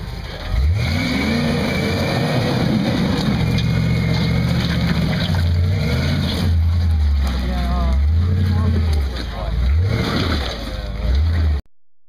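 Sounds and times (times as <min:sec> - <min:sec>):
buggy engine revving under load: 0:00.0 - 0:11.6.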